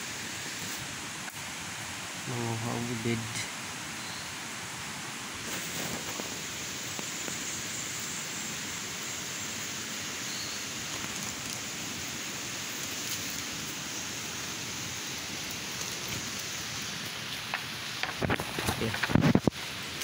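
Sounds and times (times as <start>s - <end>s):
outdoor noise hiss: 0.0s - 20.0s.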